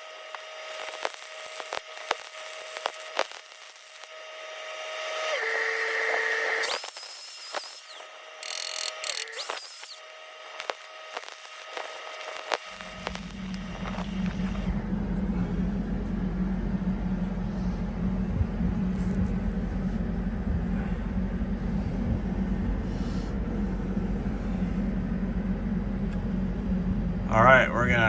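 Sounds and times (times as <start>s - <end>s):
steady engine drone: 0.0s - 28.0s.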